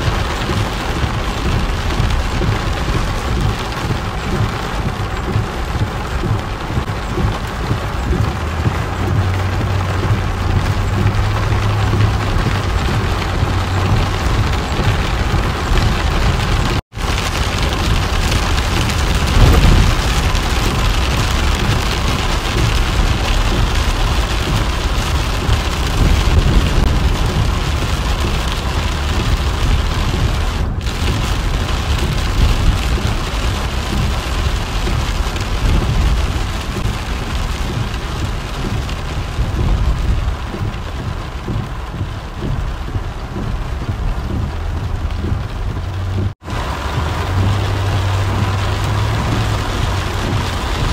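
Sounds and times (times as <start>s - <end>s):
heavy rain on car roof: 0.0s - 50.9s
tyre noise on wet road: 0.0s - 50.9s.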